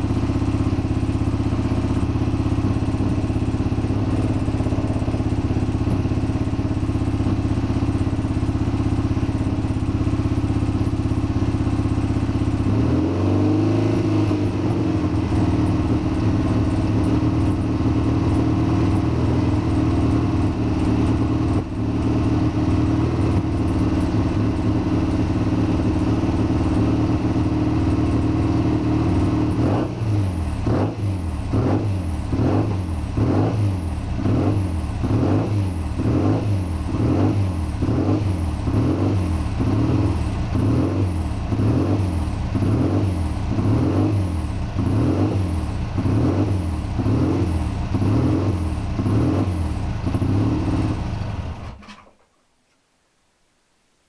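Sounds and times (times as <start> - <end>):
motorcycle engine running: 0.0 - 52.1.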